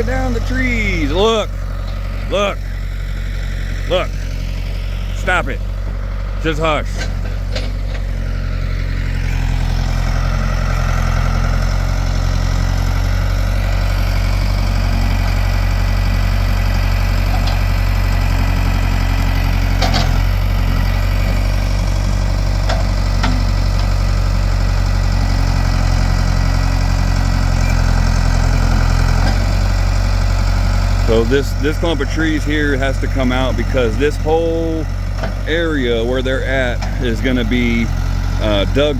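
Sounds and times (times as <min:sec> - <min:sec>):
backhoe engine running: 0:00.0 - 0:38.9.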